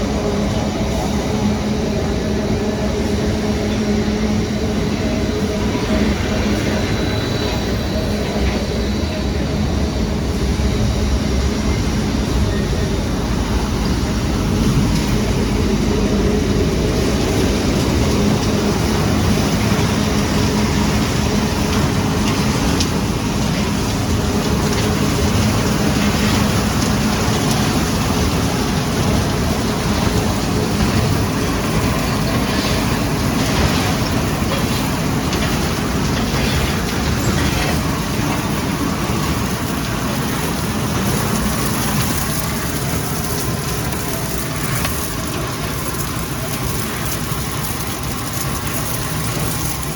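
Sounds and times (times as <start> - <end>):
constant low hum: 0.0 - 49.9
industrial machinery rumbling: 0.0 - 49.9.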